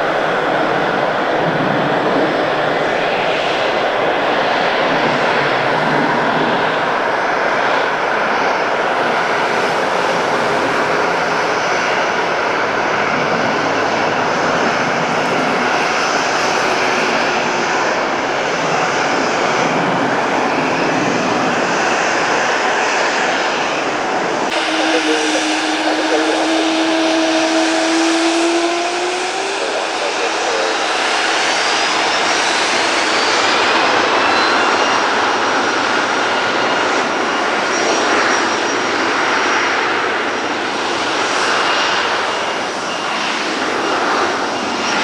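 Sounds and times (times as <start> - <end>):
jet engines roaring: 0.0 - 45.0
two-pitch engine whine: 0.0 - 45.0.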